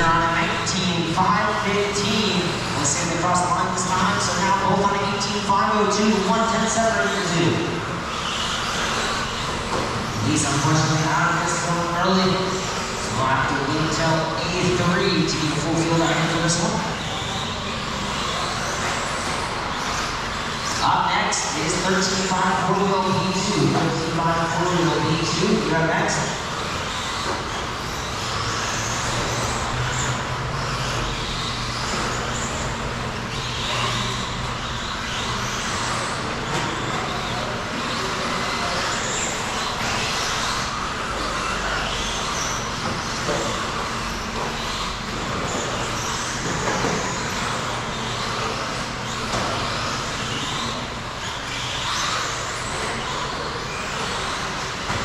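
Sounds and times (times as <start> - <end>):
rc truck motors whining: 0.0 - 55.0
steady low hum: 0.0 - 55.0.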